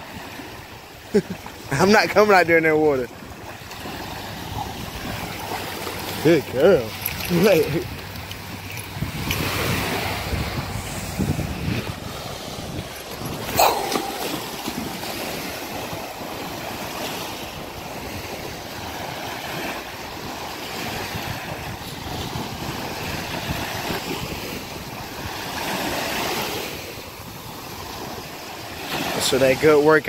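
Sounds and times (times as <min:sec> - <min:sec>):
small waves washing on shore: 0:00.0 - 0:30.0
wind on microphone: 0:03.1 - 0:29.1.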